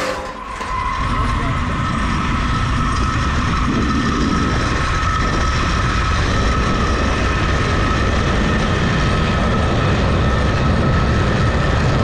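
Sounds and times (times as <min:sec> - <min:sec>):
zipline pulleys whining: 0:00.0 - 0:10.3
wind noise on microphone: 0:00.0 - 0:12.0.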